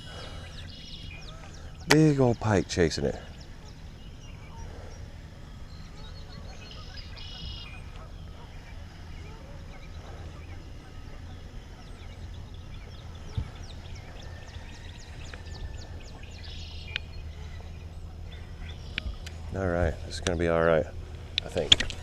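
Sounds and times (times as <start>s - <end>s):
high falling bird chirps: 0.0s - 20.2s
steady low hum: 0.0s - 22.0s.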